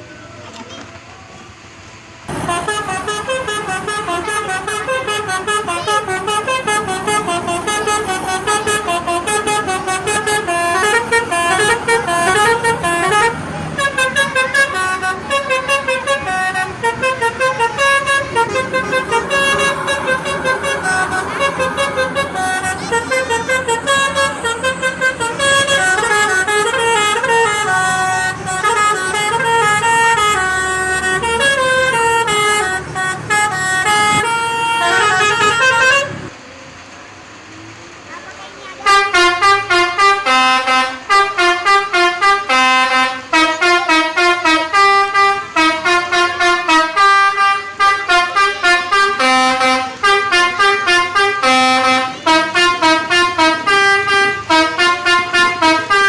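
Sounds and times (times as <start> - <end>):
musical air horn playing tune: 2.3 - 36.3, 38.8 - 56.0.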